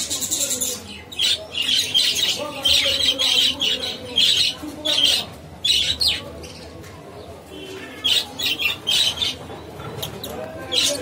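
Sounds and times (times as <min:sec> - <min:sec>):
budgerigars chirping and squawking: 0:00.0 - 0:06.7, 0:07.8 - 0:11.0.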